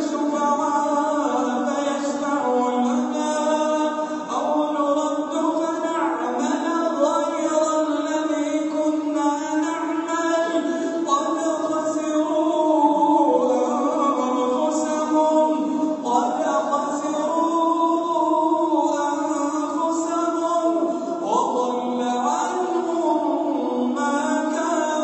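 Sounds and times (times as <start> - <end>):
person chanting a recitation: 0.0 - 25.0.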